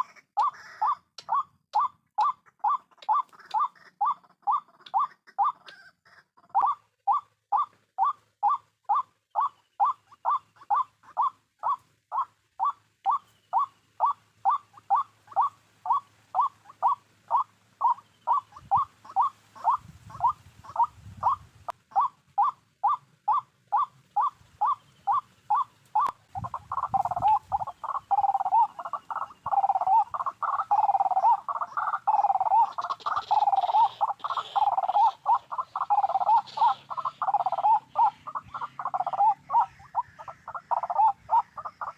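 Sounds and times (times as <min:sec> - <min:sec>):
bird croaking calls: 0:00.0 - 0:41.9.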